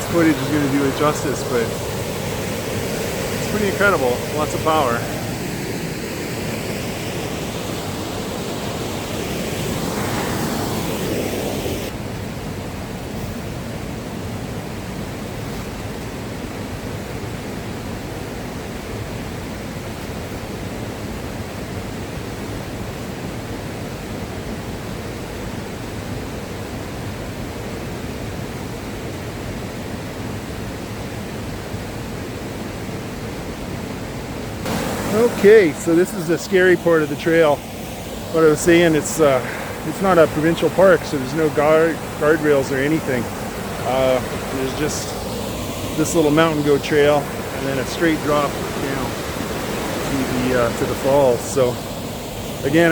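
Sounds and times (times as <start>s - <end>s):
powerful waterfall rushing: 0.0s - 52.9s.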